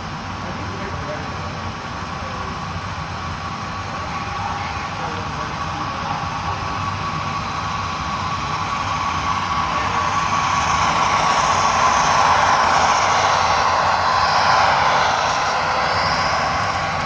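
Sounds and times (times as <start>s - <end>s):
faint steady whine: 0.0s - 17.0s
train rushing past: 0.0s - 17.0s.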